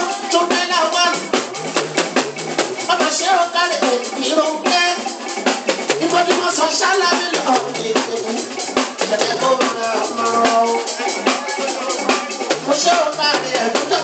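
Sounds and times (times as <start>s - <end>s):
person singing: 0.0s - 1.8s, 2.8s - 5.3s, 5.9s - 14.0s
drum kit fast steady beat: 0.0s - 14.0s.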